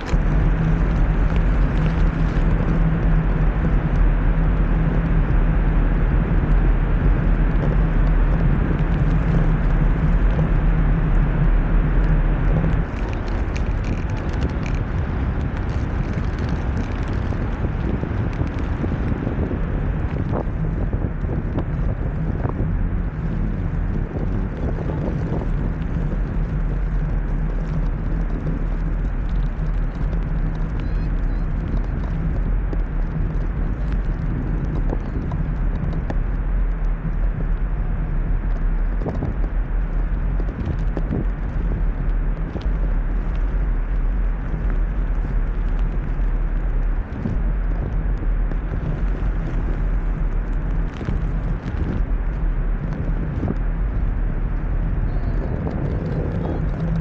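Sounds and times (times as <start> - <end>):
small tyres rolling on tarmac: 0.0 - 57.0
wind on microphone: 0.0 - 57.0.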